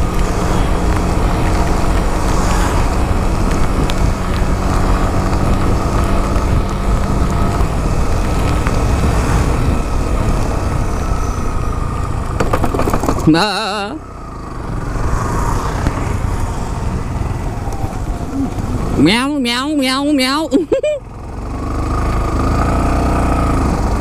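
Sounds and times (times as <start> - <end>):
loud road noise: 0.0 - 24.0
vehicle engine running: 0.0 - 24.0.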